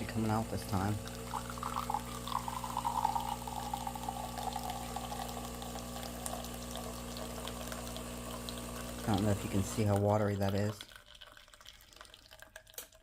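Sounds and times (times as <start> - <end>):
coffee machine hum: 0.0 - 10.8
espresso pouring into cup: 0.0 - 13.0.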